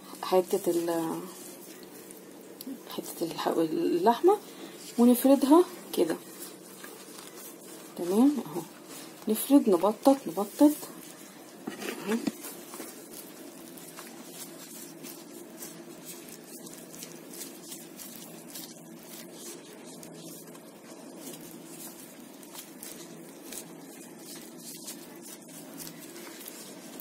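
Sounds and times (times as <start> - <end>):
steady low hum: 0.0 - 27.0
gloved hands rustling and ticking: 0.1 - 27.0.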